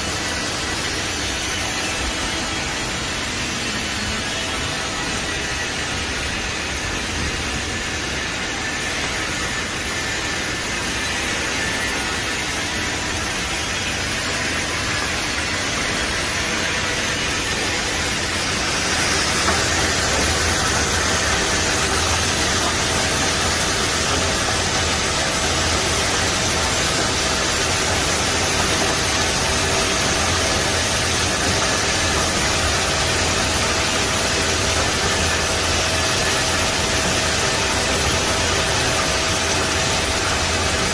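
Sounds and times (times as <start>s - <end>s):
coolant spraying: 0.0s - 40.9s
lathe machine hum: 0.0s - 40.9s
steady machine whine: 0.0s - 40.9s.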